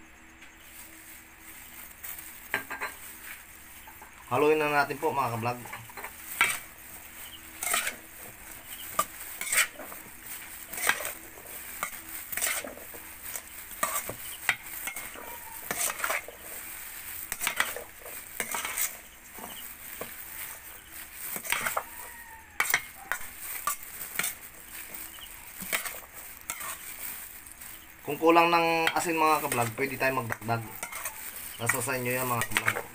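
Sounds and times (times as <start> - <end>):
wet rustling of vegetables: 0.3 - 32.9
spoon scraping metal bowl: 2.5 - 32.9.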